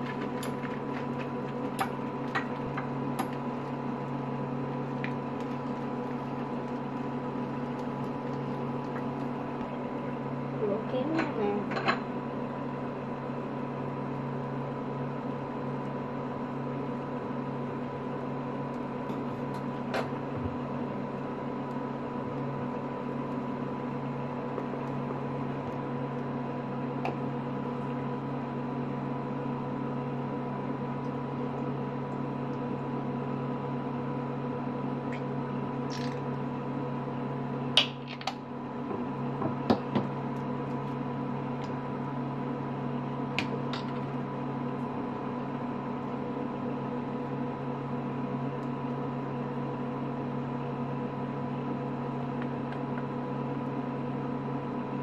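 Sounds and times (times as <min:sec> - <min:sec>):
appliance hum: 0:00.0 - 0:55.0.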